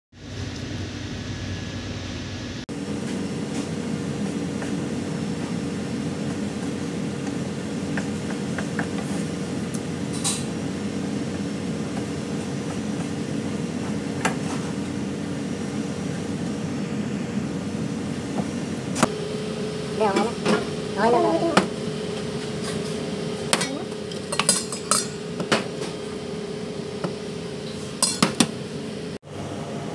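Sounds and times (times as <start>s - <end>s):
kitchen machinery humming: 0.2s - 29.9s.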